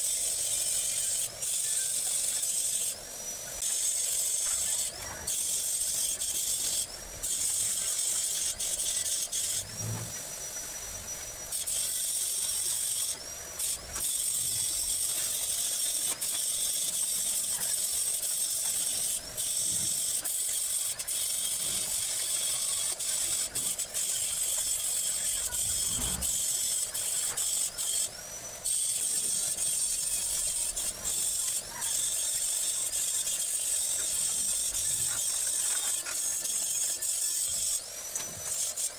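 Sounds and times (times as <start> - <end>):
arc welding sizzling hiss: 0.0 - 38.9.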